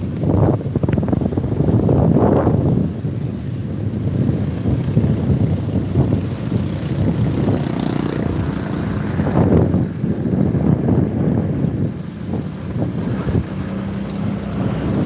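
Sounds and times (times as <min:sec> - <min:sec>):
wind buffeting microphone: 0:00.0 - 0:15.0
motorcycle engine running: 0:01.9 - 0:15.0.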